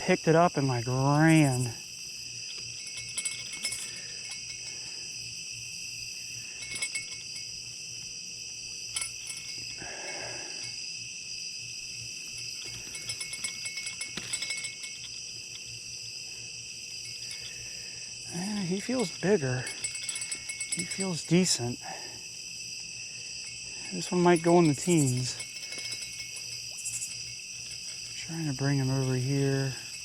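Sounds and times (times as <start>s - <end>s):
crickets and insects trilling: 0.0s - 30.0s
rustle: 0.9s - 30.0s.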